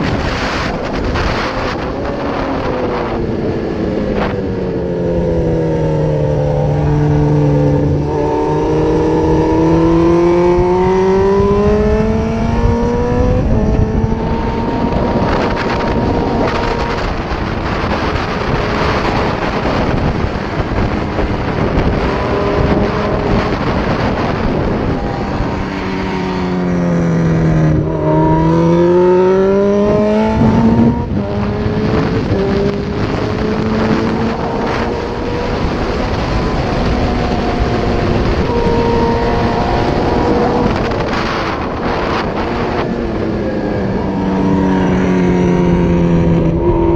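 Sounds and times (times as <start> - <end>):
motorcycle engine at speed: 0.0 - 46.9
wind rush: 0.0 - 46.9.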